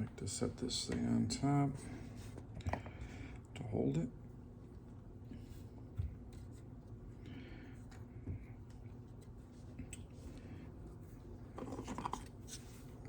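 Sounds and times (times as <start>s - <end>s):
low electric hum: 0.0s - 13.0s.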